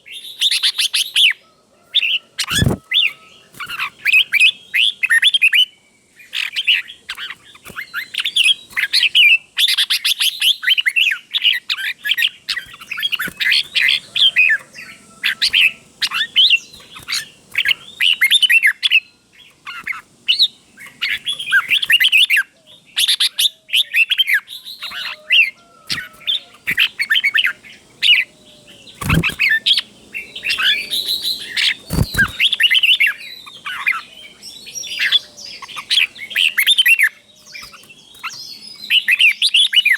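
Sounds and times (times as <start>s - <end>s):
bulbul singing: 2.0s - 39.9s.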